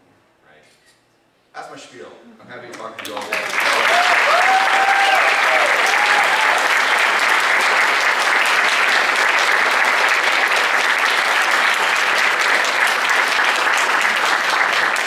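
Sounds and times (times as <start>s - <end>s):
audience applauding: 2.9s - 15.0s.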